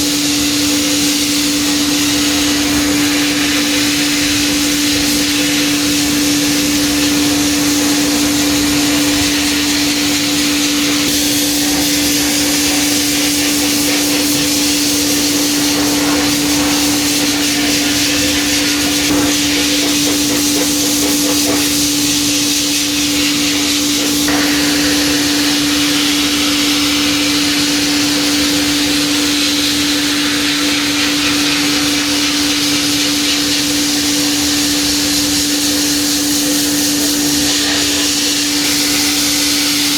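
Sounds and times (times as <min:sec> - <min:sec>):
sandblasting hiss: 0:00.0 - 0:39.9.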